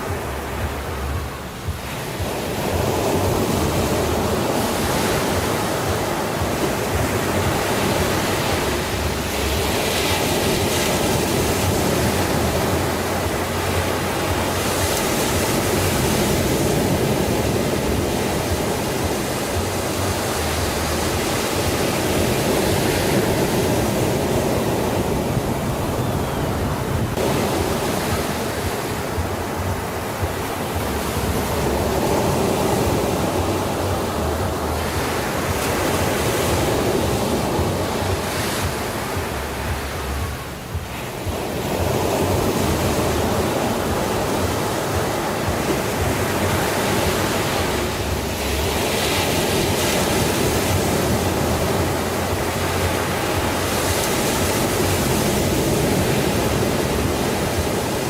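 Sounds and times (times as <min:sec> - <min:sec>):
waves washing in: 0:00.0 - 0:58.0.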